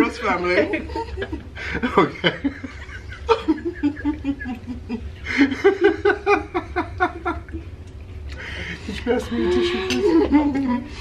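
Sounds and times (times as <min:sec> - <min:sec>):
people laughing: 0:00.2 - 0:07.7, 0:08.4 - 0:11.0.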